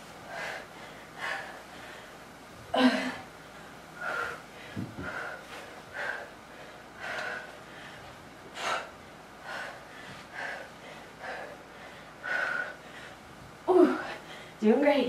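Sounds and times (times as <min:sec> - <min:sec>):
woman breathing hard: 0:00.0 - 0:14.6.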